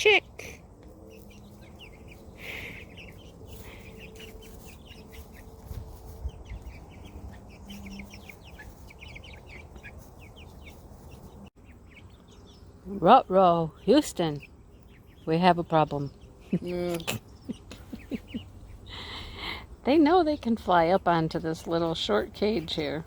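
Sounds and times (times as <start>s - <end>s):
young chickens cheeping: 0.2s - 23.0s.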